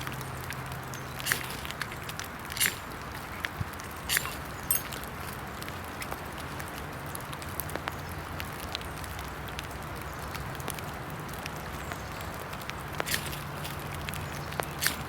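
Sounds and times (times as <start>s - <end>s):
rain hissing in woods: 0.0s - 15.0s.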